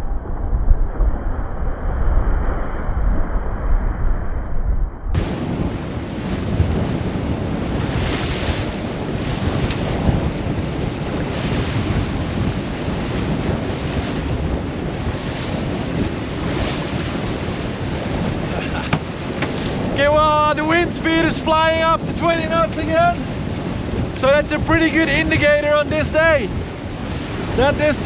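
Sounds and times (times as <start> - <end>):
wind buffeting microphone: 0.0 - 28.0
water rushing along hull: 5.2 - 28.0.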